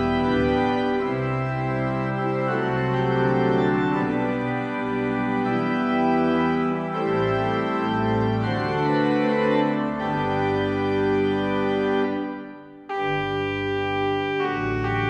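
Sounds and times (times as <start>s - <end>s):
organ sustained chords: 0.0s - 15.0s.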